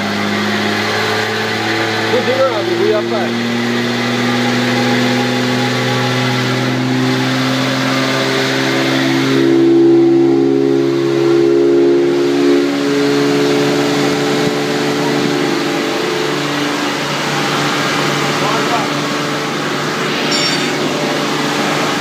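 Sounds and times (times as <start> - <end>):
car engine and exhaust: 0.0 - 22.0.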